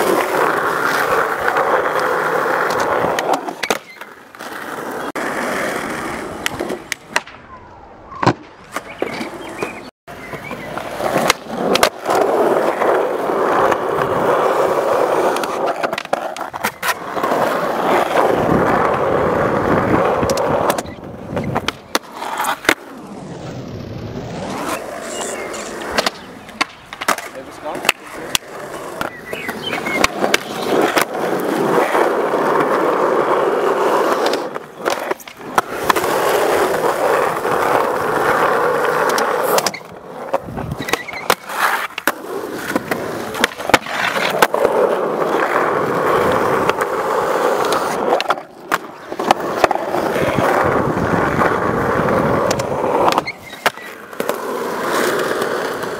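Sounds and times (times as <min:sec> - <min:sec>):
skateboard popping and landing clacks: 0:00.0 - 0:07.4, 0:08.1 - 0:23.2, 0:24.1 - 0:55.9
skateboard sliding on concrete ledge: 0:00.0 - 0:07.4, 0:08.1 - 0:55.9
skateboard wheels rolling on concrete: 0:00.0 - 0:55.9.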